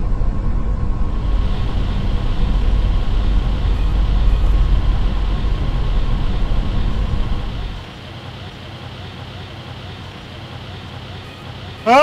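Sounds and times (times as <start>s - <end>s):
loud low rumble with hiss: 0.0s - 12.0s.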